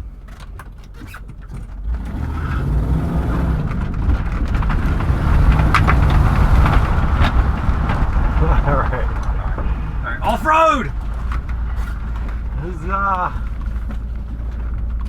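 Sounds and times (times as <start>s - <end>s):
car body rattles: 0.0s - 15.0s
engine rumble inside car: 0.0s - 15.0s.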